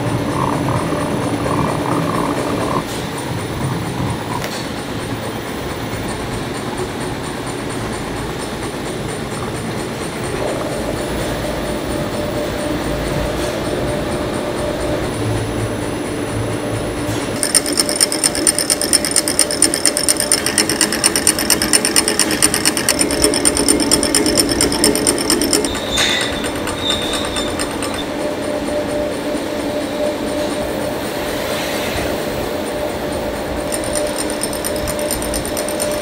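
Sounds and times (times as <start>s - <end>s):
fast mechanical clatter: 0.0s - 31.0s, 32.6s - 36.0s
machinery humming: 0.0s - 36.0s.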